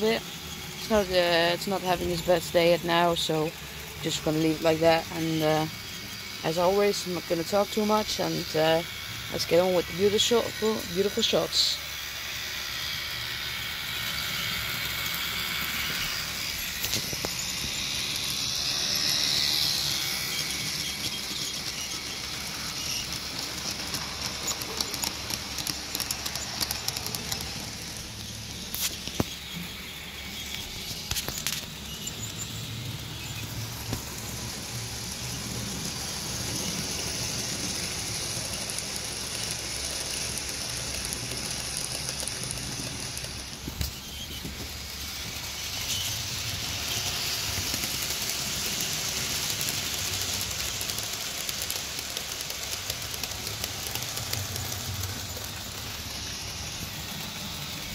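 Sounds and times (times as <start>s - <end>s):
rolling wheel noise: 0.0s - 12.2s, 12.9s - 57.9s
model train motor hum: 0.0s - 57.9s.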